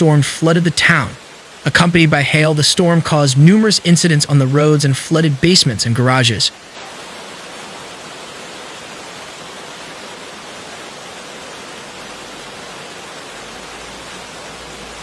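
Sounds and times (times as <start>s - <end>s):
floodwater rushing: 0.0s - 15.0s
torrential rain: 0.0s - 15.0s.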